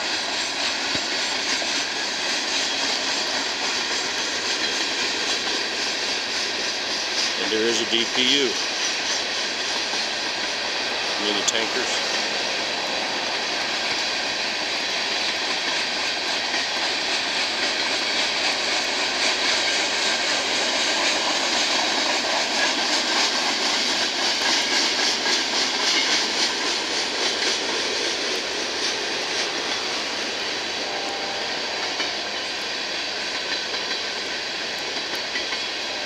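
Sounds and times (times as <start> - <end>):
train wheels rolling on rail: 0.0 - 36.0.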